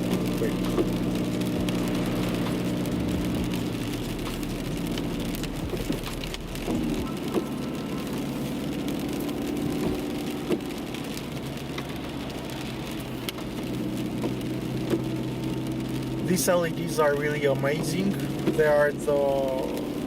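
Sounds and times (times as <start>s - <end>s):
car engine humming: 0.0s - 20.0s
rain falling on a car: 0.0s - 20.0s
raindrops tapping: 0.0s - 20.0s.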